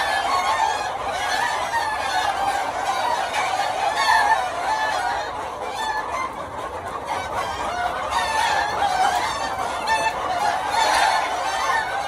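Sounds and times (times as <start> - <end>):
chickens clucking and crowing: 0.0 - 12.0.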